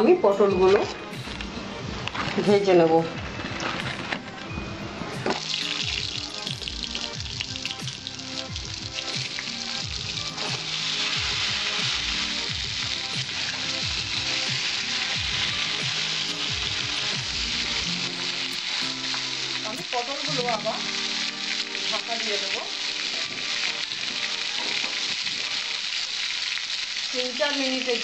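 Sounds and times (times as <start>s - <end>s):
vegetables sizzling in oil: 5.2s - 28.0s.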